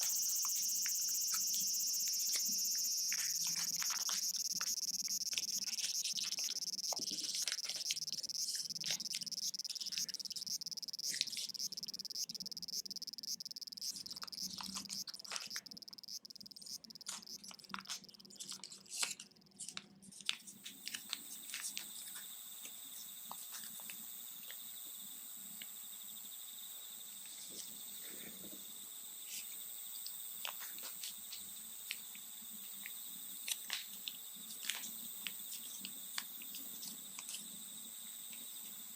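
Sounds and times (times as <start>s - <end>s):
cicadas buzzing chorus: 0.0s - 18.2s, 20.8s - 38.9s.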